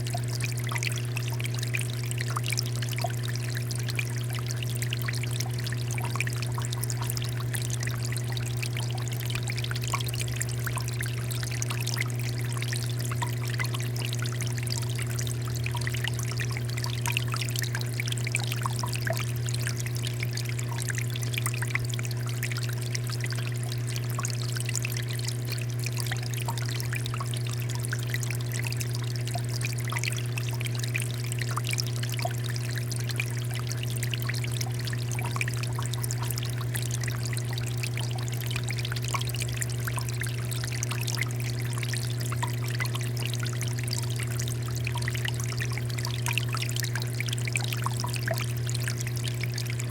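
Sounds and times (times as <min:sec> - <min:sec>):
constant low hum: 0:00.0 - 0:49.9.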